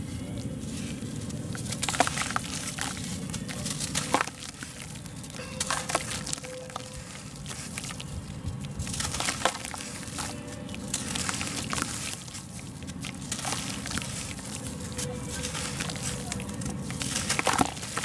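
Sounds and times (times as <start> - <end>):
cement block crunching by hand: 0.9 - 18.0.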